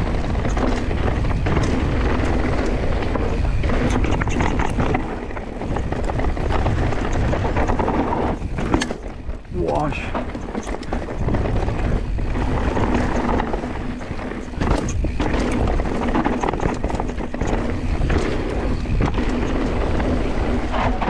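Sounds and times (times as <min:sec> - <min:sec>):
bike rattling over bumps: 0:00.0 - 0:21.0
bike tyres crunching over dirt: 0:00.0 - 0:21.0.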